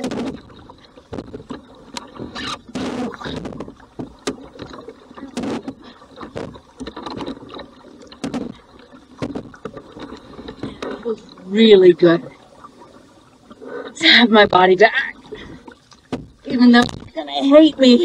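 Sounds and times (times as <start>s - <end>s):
kayak paddle splashing: 0.0s - 18.0s.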